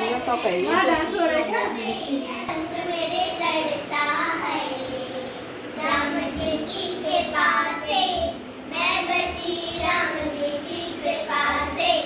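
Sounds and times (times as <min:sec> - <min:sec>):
girls singing together: 0:01.8 - 0:12.0.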